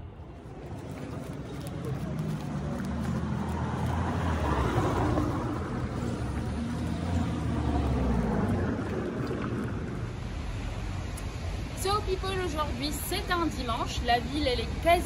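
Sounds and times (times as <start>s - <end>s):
car traffic: 0.0s - 15.0s.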